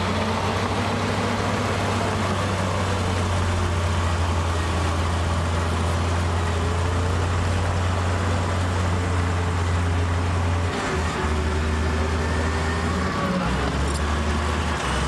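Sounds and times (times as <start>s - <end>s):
diesel machinery droning: 0.0s - 15.0s.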